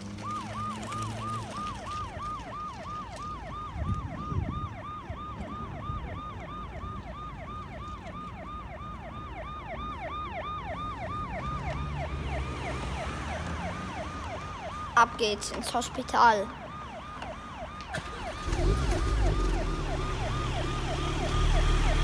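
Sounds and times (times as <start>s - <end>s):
toy ambulance siren: 0.0s - 22.0s.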